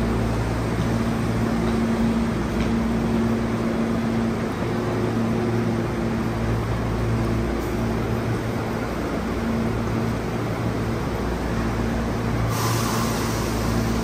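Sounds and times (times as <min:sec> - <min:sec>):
electric train rumbling hum: 0:00.0 - 0:14.0.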